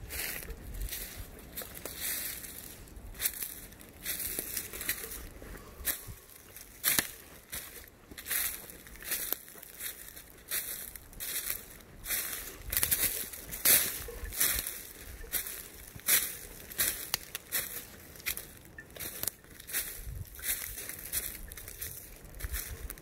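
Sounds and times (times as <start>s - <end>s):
footsteps crunching through dry leaves: 0.0s - 23.0s.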